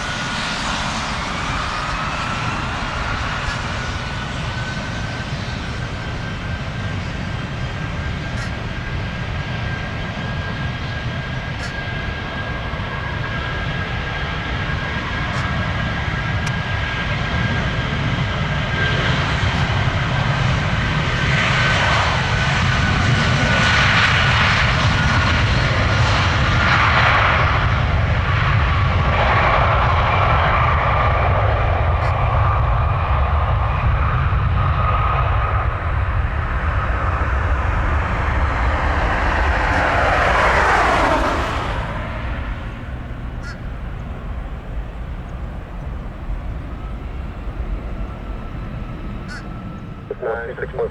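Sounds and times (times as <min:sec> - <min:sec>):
jet engines passing: 0:00.0 - 0:50.9.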